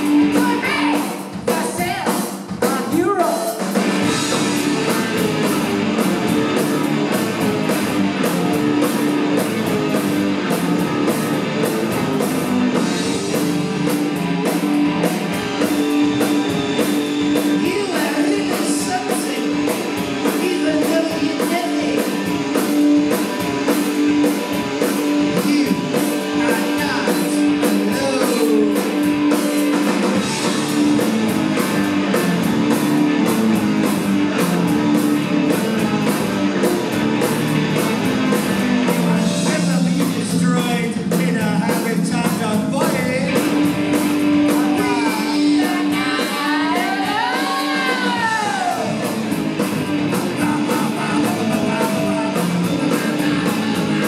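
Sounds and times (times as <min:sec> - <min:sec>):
drum kit beat: 0:00.0 - 0:54.0
electric guitars: 0:00.0 - 0:54.0
keyboard: 0:00.0 - 0:54.0.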